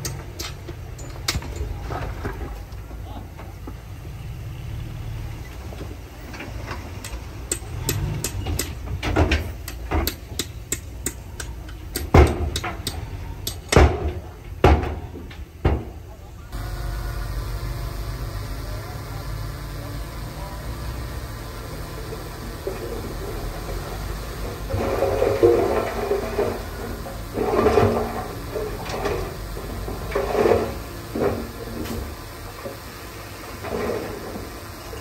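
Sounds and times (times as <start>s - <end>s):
machinery clanks and knocks: 0.0s - 3.8s, 5.5s - 17.6s, 18.6s - 32.8s
diesel engine rumble: 0.0s - 35.0s
steady engine drone: 2.0s - 14.5s, 15.2s - 35.0s.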